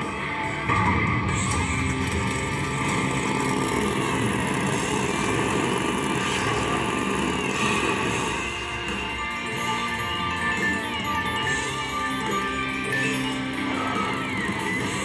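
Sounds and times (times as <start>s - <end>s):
motorcycle engine sound effect: 0.0s - 15.0s.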